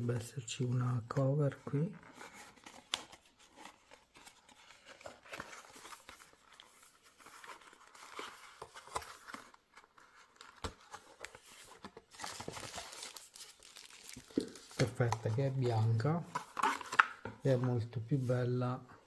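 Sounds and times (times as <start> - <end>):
cardboard and paper rustling: 1.6 - 17.6.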